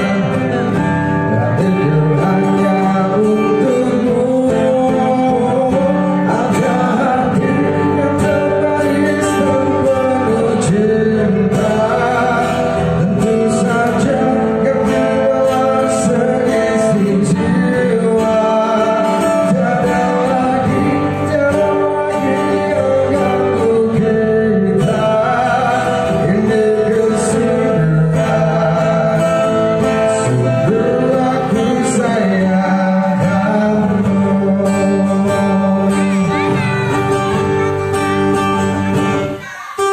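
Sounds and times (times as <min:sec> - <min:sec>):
acoustic guitar: 0:00.0 - 0:39.9
man singing: 0:00.0 - 0:39.9.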